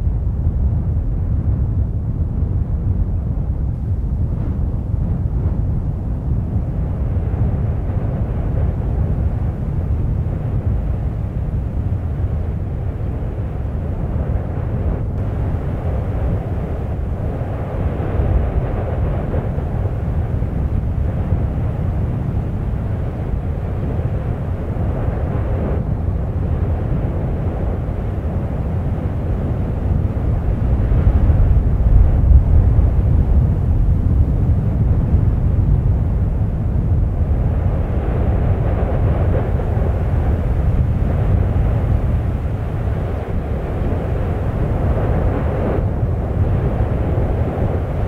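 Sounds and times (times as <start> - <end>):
volcano deep rumbling roar: 0.1 - 48.0.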